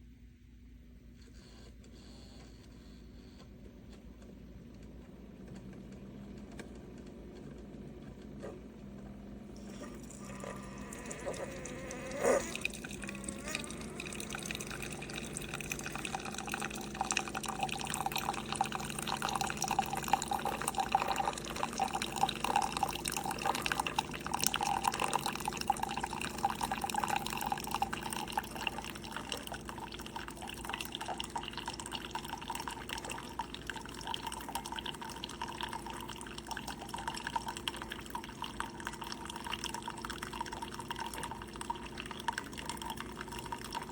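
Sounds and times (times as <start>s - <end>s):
coffee streaming into a cup: 6.9s - 43.9s.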